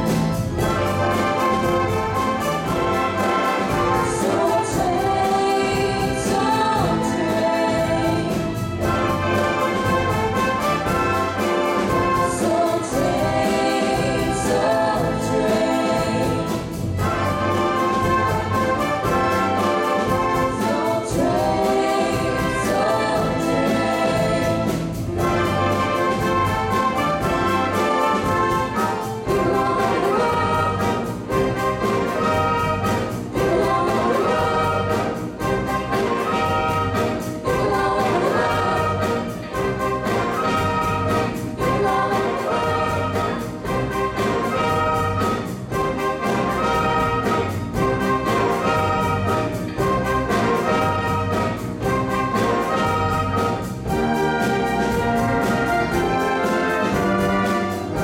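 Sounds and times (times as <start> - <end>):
group of singers: 0.0 - 58.0
orchestra and band playing soul music: 0.0 - 58.0.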